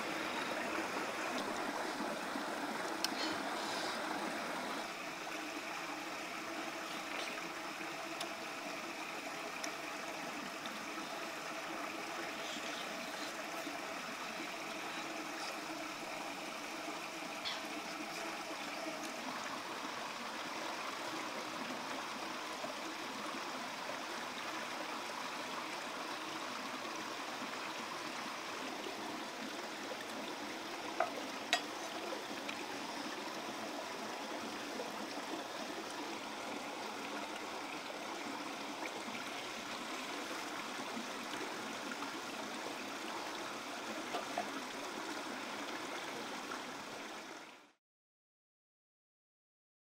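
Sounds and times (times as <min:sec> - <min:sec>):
stream rushing over stones: 0:00.0 - 0:47.6.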